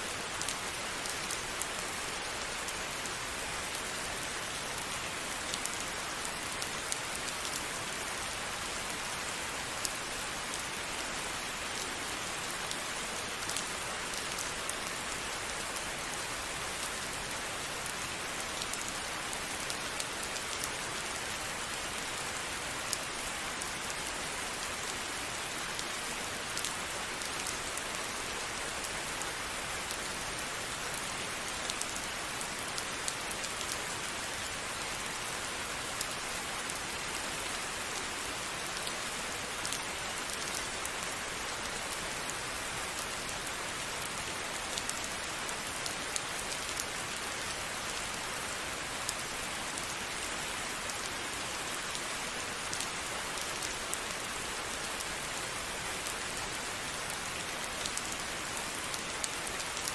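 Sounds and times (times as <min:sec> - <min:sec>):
steady rain falling: 0:00.0 - 0:59.9
raindrops ticking on a surface: 0:00.2 - 0:48.2, 0:49.0 - 0:59.9.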